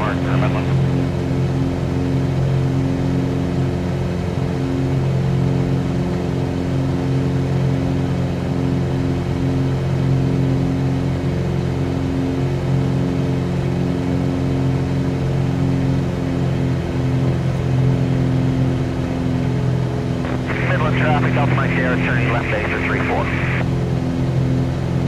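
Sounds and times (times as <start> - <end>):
light aircraft cabin drone: 0.0 - 25.0.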